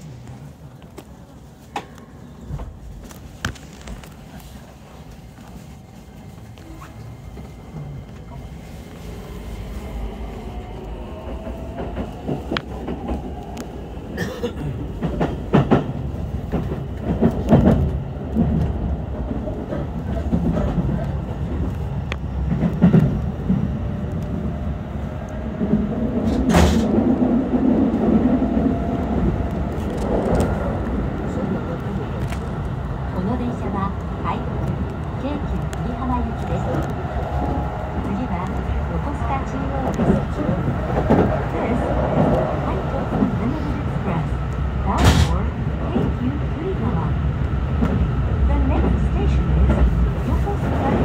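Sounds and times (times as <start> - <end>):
train running rumble: 0.0 - 51.0.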